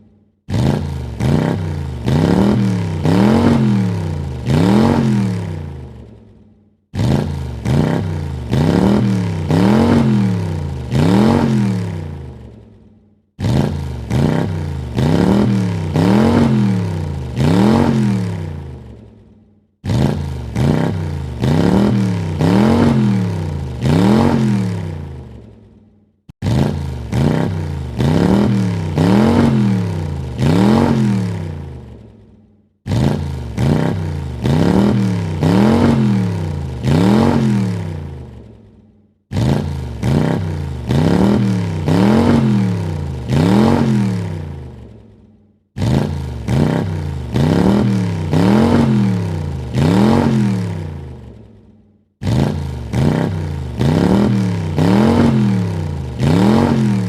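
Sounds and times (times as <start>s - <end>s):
car engine revving: 0.5s - 6.2s, 6.9s - 12.6s, 13.4s - 19.1s, 19.8s - 25.6s, 26.3s - 32.2s, 32.8s - 38.6s, 39.3s - 45.0s, 45.8s - 51.5s, 52.2s - 57.0s.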